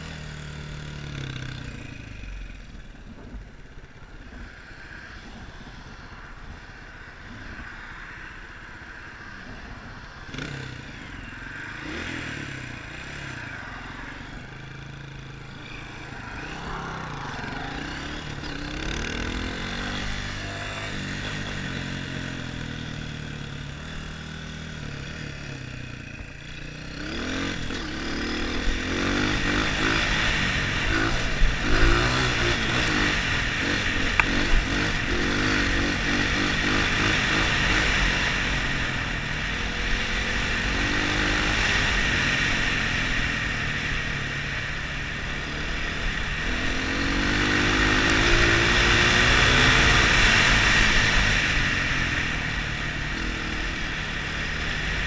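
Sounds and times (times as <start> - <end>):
dirt bike engine revving: 10.3 - 25.8, 26.4 - 55.0.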